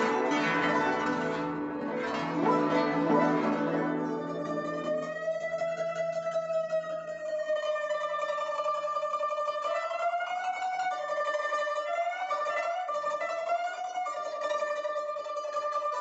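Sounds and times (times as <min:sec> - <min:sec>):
guzheng tremolo melody: 0:00.0 - 0:16.0.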